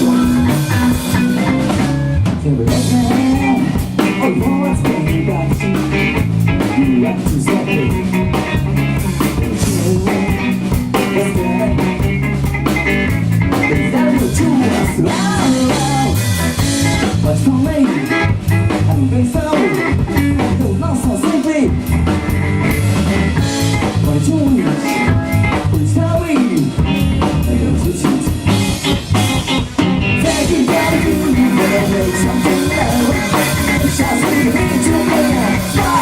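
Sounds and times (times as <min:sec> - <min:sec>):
bass guitar: 0:00.0 - 0:36.0
drum kit: 0:00.0 - 0:36.0
electric guitar: 0:00.0 - 0:36.0.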